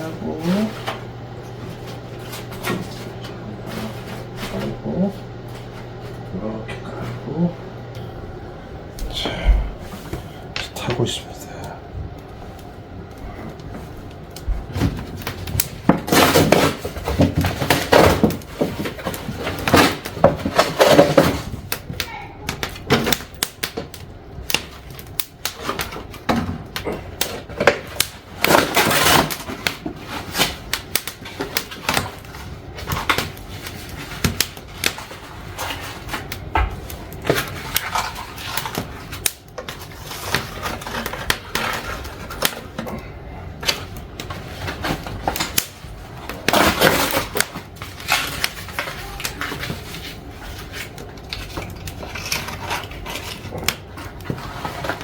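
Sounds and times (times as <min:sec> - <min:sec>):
fire crackling and popping: 0:08.9 - 0:55.0.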